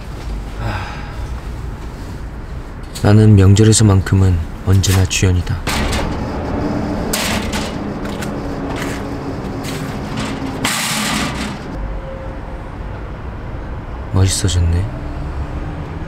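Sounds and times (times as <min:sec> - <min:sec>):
city traffic drone: 0:00.0 - 0:16.0.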